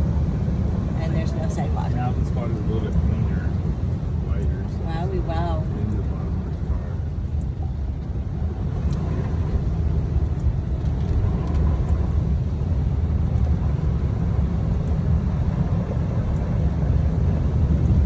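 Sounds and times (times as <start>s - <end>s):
car driving on wet road: 0.0s - 18.0s
engine hum: 0.0s - 18.0s.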